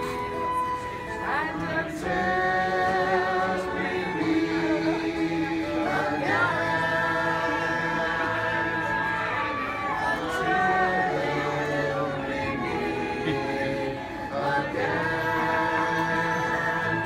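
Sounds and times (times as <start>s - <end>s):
group singing in harmony: 0.0s - 17.0s
wooden flute: 0.0s - 17.0s.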